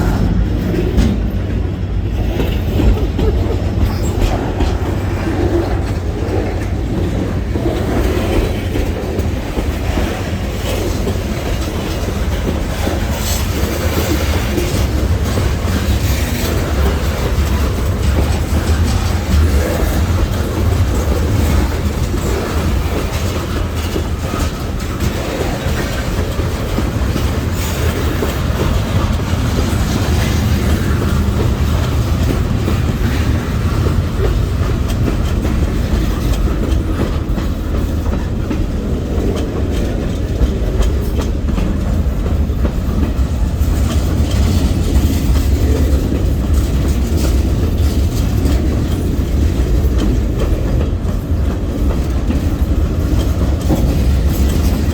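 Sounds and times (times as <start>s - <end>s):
freight train rumbling: 0.0s - 54.9s
train wheels clicking over rail joints: 0.0s - 54.9s.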